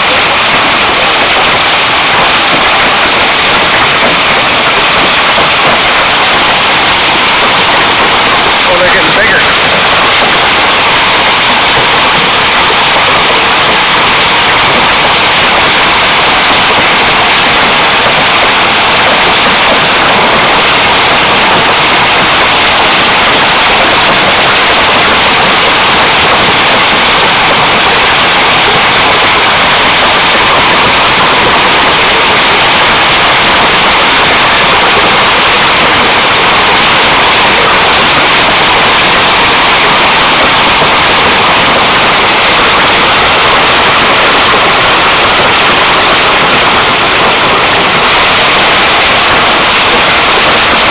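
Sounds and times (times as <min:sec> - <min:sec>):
hail and rain on hard surfaces: 0:00.0 - 0:50.9.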